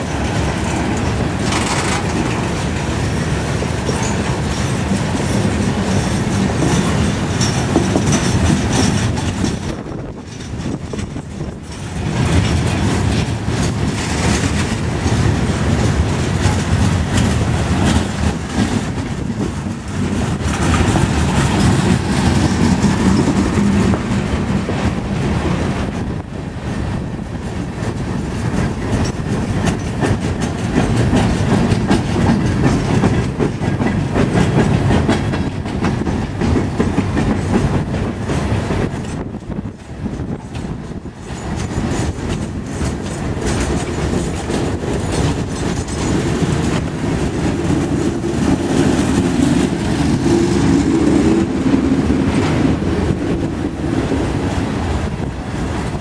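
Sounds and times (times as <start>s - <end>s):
steel wheels rumbling on rails: 0.0s - 56.0s
wheels clacking over rail joints: 0.0s - 56.0s.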